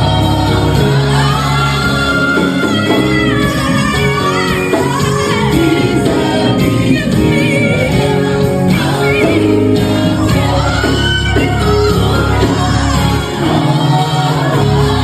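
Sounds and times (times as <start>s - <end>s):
gospel song with several voices: 0.0s - 15.0s.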